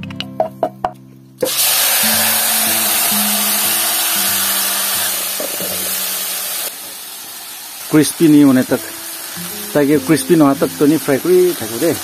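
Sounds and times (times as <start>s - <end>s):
food sizzling in hot oil: 1.4s - 12.0s.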